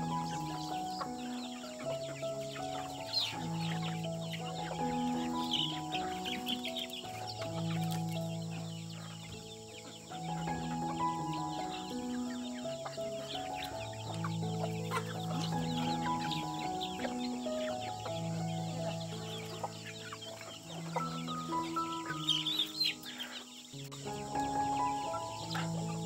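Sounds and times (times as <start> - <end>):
chickens clucking: 0.0 - 26.0
music of long held chords: 0.0 - 26.0.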